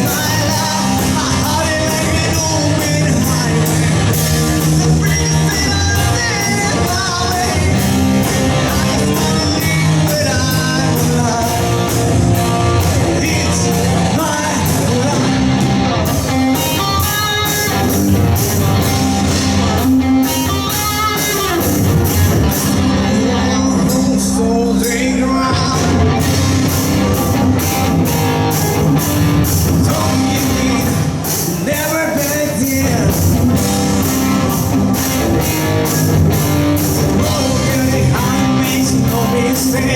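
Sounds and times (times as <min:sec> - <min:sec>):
drum kit beat: 0:00.0 - 0:24.2, 0:24.9 - 0:39.9
bass guitar: 0:00.0 - 0:39.9
electric guitar: 0:00.0 - 0:39.9
man singing: 0:00.0 - 0:39.9.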